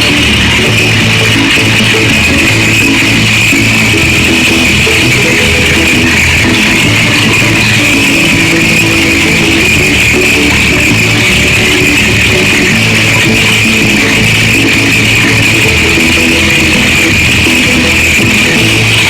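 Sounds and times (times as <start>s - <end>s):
guitar and bass music: 0.0s - 19.0s.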